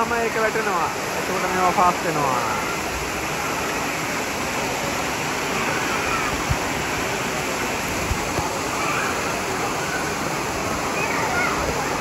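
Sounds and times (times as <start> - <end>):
water gushing into pool: 0.0 - 12.0
faint children's voices: 2.2 - 12.0.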